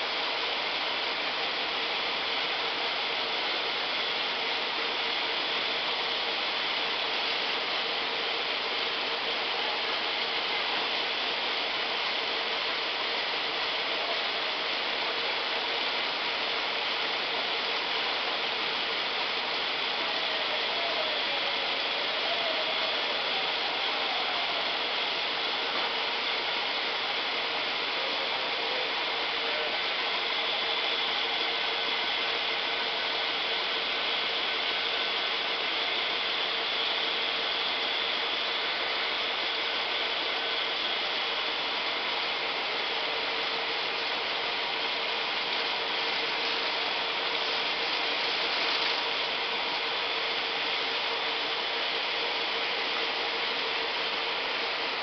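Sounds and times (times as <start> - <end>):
machine whine: 0.0 - 55.0.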